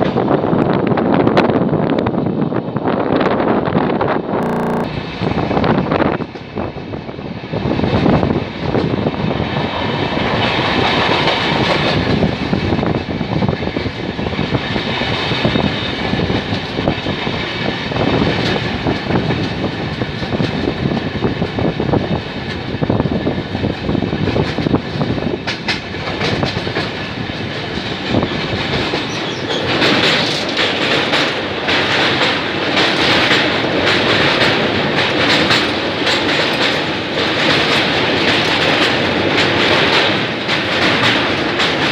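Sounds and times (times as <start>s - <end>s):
train wheels clickety-clack: 0.0s - 3.4s, 5.2s - 41.9s.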